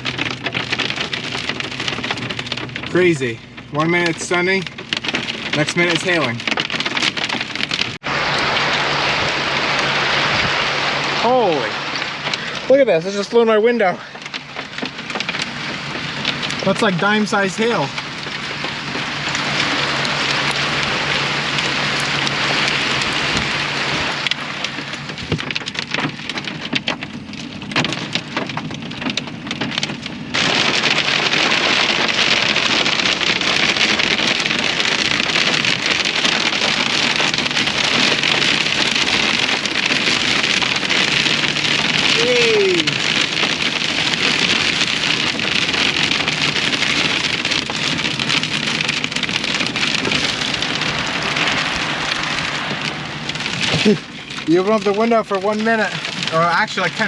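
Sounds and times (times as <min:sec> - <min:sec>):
hailstones ticking: 0:00.0 - 0:57.0
heavy rain and hail: 0:00.0 - 0:57.0.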